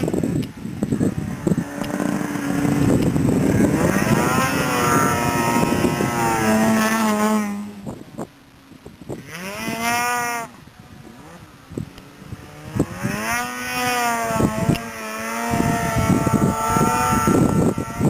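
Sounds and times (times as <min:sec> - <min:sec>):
snowmobile engine revving: 0:00.0 - 0:08.0, 0:09.1 - 0:18.0.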